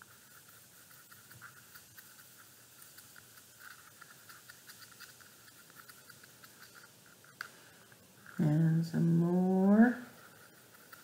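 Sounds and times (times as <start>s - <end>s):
paintbrush stirring paint: 0.0s - 11.0s.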